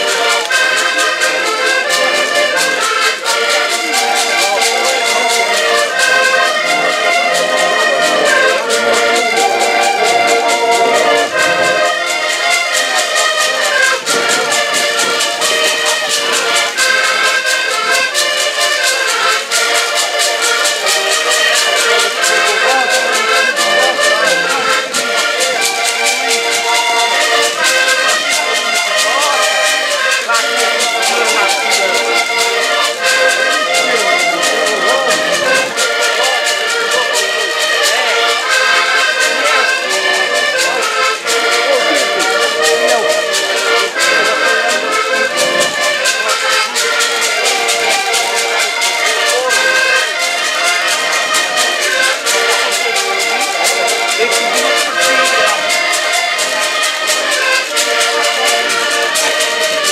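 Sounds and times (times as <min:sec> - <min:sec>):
accordions playing a tune: 0:00.0 - 0:59.9.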